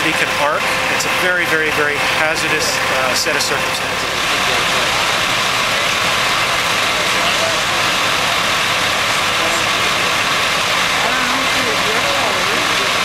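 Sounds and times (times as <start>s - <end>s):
faint voices: 0.0s - 13.0s
vehicle engine idling: 0.0s - 13.0s.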